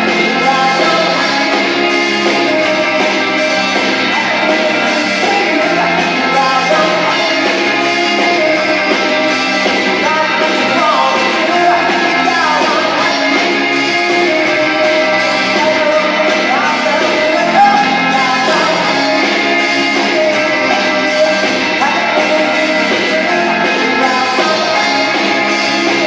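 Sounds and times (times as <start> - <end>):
lead singer: 0.0 - 26.0
live pop band: 0.0 - 26.0.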